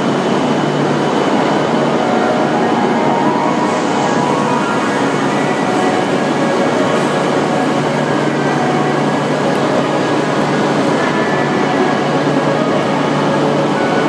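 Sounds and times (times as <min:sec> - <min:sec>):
train rumble and hiss: 0:00.0 - 0:14.0.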